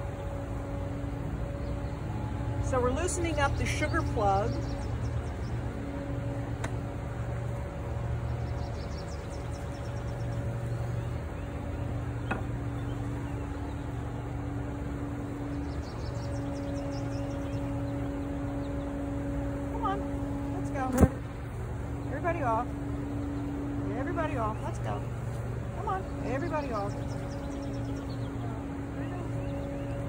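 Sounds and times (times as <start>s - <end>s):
honeybees humming: 0.0s - 30.0s.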